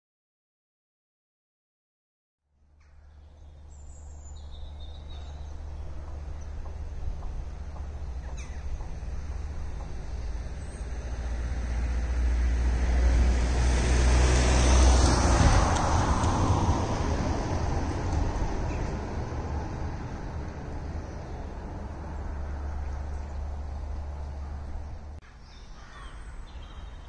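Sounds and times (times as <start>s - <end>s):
van driving past: 2.6s - 25.2s.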